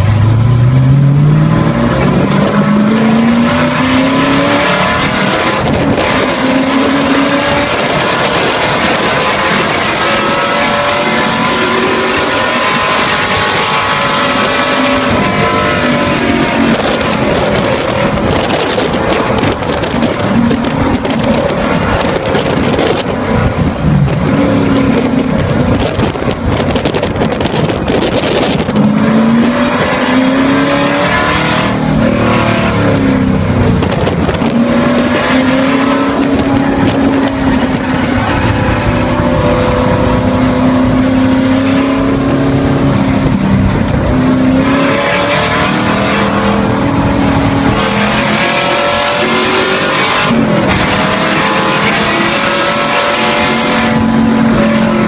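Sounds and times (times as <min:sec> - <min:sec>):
race car engine: 0:00.0 - 0:55.0
wind and road noise: 0:00.0 - 0:55.0.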